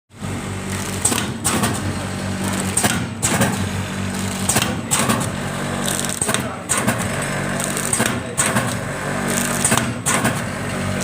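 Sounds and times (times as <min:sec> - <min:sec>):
packing machine motor hum: 0:00.1 - 0:11.0
hissing clatter of machine: 0:00.2 - 0:11.0.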